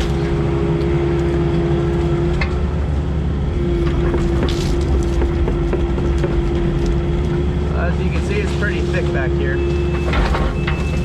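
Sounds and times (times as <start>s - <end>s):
heavy equipment engine running: 0.0s - 11.0s.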